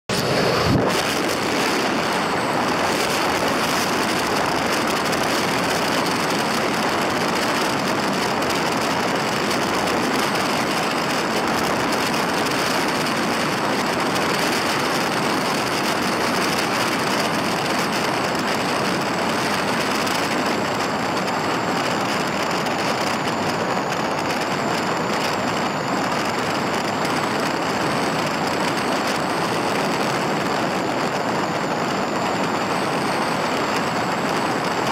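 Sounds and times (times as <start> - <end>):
car engine: 0.1 - 34.9
tyre and wind road noise: 0.1 - 34.9.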